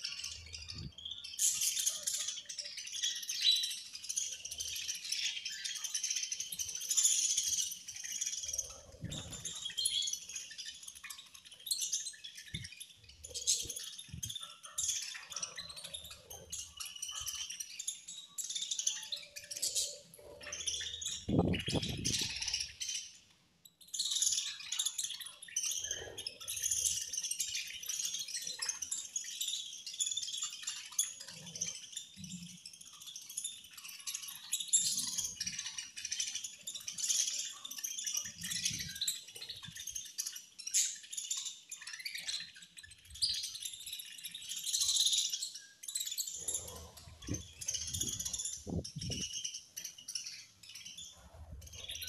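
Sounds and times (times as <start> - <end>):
budgerigars chirping and chattering: 0.0 - 52.0.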